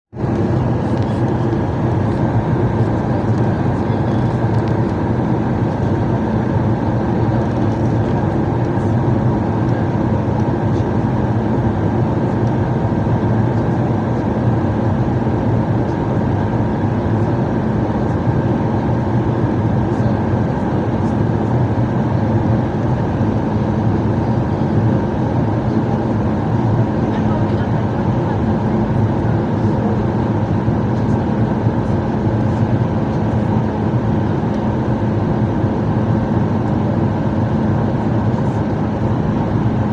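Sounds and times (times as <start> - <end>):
airliner cabin engine rush: 0.1 - 39.9.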